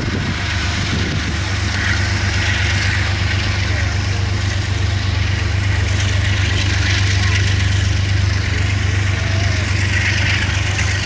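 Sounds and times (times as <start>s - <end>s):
locomotive engine humming: 0.0s - 11.0s.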